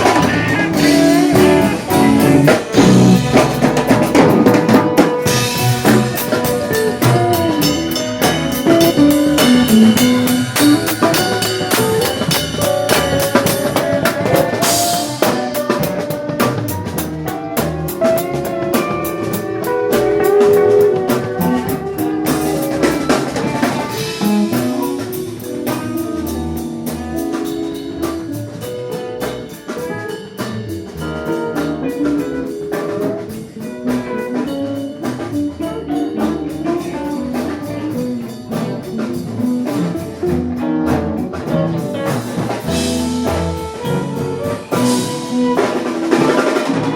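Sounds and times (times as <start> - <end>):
drum kit beat: 0.0 - 46.9
guitar playing jazzy groove: 0.0 - 46.9.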